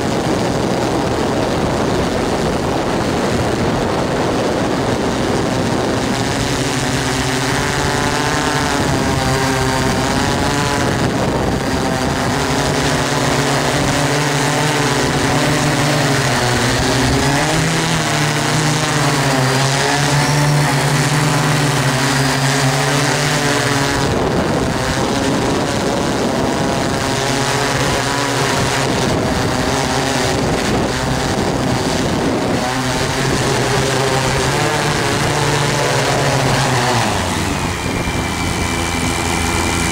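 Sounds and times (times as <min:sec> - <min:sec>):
drone motors humming: 0:00.0 - 0:39.9
wind noise: 0:00.0 - 0:39.9.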